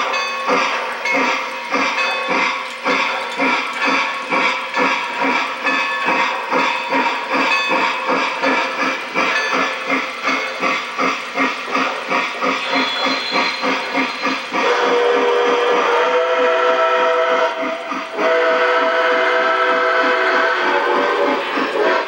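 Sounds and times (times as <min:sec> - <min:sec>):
rhythmic steam chuff: 0:00.0 - 0:22.0
steady whistle tone: 0:00.0 - 0:22.0.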